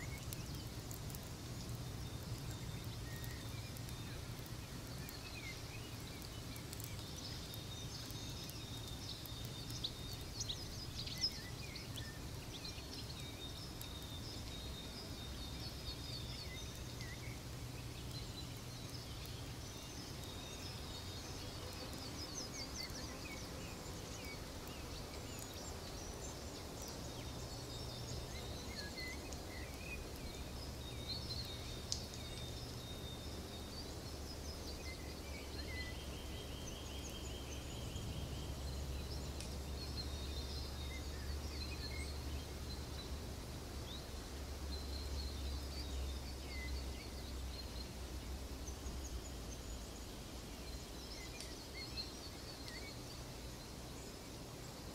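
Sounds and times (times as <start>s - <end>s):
fire crackles: 0.0s - 54.9s
small birds chirping: 0.0s - 54.9s.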